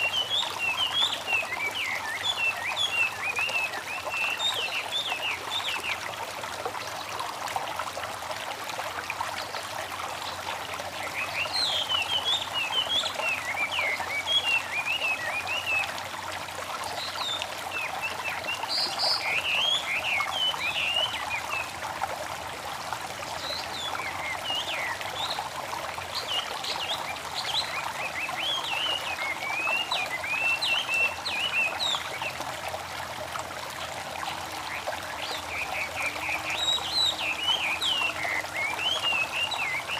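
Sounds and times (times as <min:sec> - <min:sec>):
babbling stream: 0:00.0 - 0:39.9.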